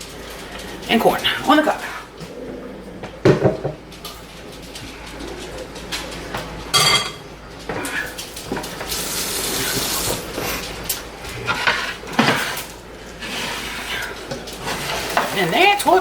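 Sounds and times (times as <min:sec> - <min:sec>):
utensils clinking on plates: 0:03.0 - 0:16.0.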